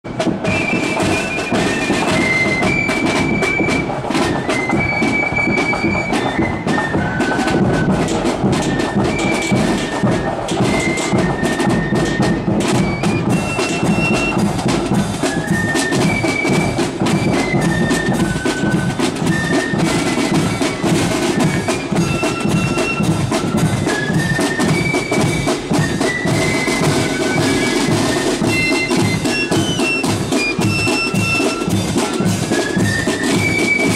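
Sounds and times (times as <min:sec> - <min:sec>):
flutes playing march melody: 0:00.0 - 0:33.9
side drums and bass drum: 0:00.1 - 0:33.9.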